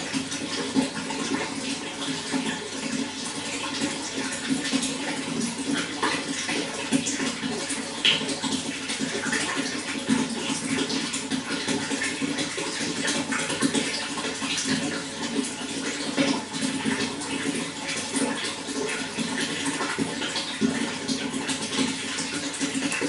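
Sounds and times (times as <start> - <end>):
water splashing and gurgling: 0.0 - 23.0.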